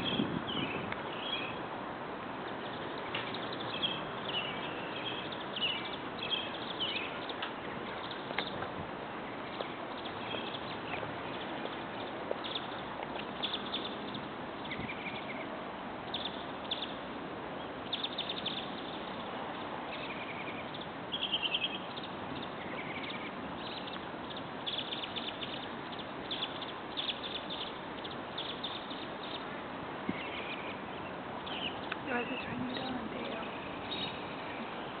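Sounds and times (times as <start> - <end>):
birds chirping: 0.0 - 1.7, 2.4 - 35.0
outdoor background hiss: 0.0 - 35.0.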